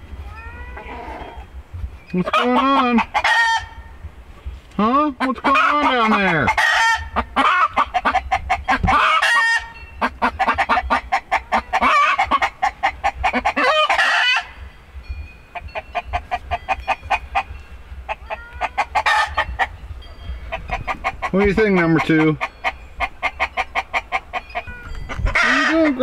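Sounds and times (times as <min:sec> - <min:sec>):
hens clucking: 0:02.1 - 0:03.9, 0:04.8 - 0:14.6, 0:15.5 - 0:26.0
hens squawking: 0:02.1 - 0:03.9, 0:04.8 - 0:14.6, 0:15.6 - 0:19.8, 0:20.4 - 0:26.0.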